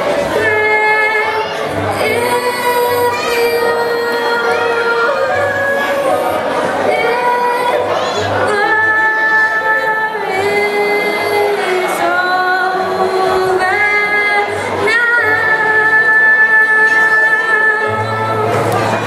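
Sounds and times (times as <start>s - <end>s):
electronic keyboard accompaniment: 0.0s - 19.0s
woman singing slow song: 0.0s - 19.0s.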